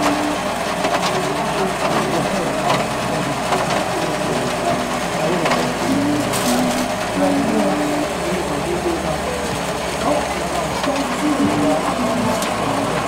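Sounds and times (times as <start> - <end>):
background voices: 0.0 - 13.0
rotating skewers clattering: 0.0 - 13.0.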